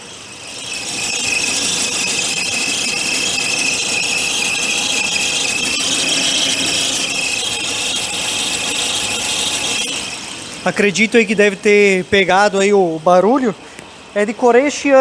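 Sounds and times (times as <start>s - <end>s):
high-pitched belt squeal: 0.0s - 13.4s.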